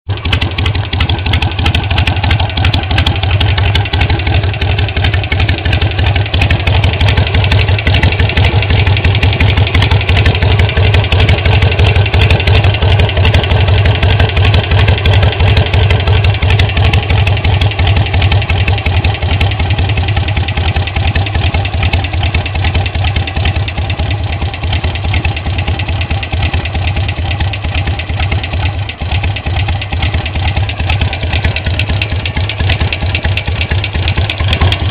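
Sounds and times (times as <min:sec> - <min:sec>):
engine ticking: 0:00.0 - 0:34.9
motorcycle engine idling: 0:00.0 - 0:34.9.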